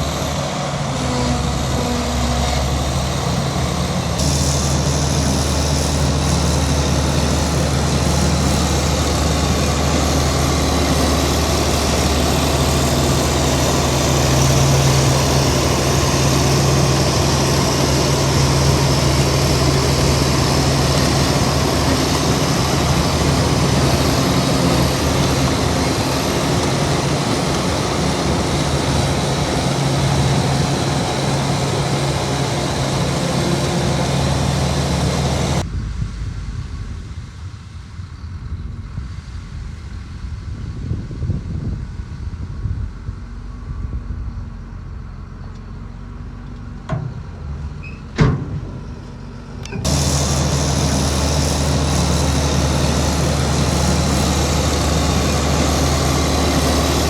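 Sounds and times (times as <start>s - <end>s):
heavy diesel engine running: 0.0s - 38.9s, 39.6s - 57.0s.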